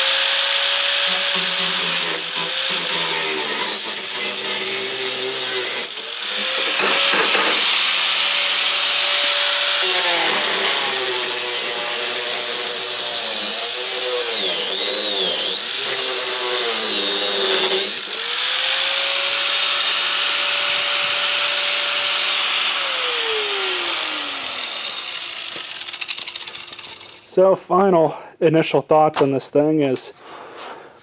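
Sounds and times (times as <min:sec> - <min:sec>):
angle grinder cutting metal: 0:00.0 - 0:27.3.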